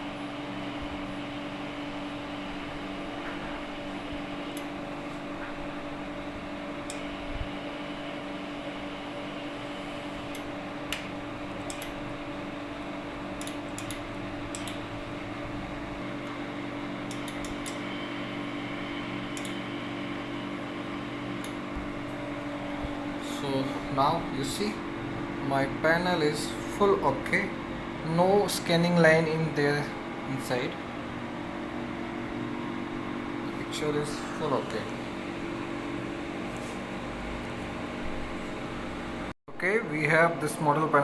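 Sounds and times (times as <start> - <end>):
electrical hum of machine: 0.0 - 41.0.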